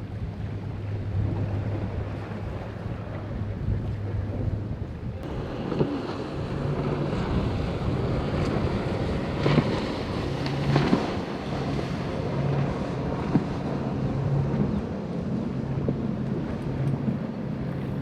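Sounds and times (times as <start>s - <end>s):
boat engine droning: 0.0s - 18.0s
waves washing: 0.0s - 18.0s
wind buffeting microphone: 0.0s - 18.0s.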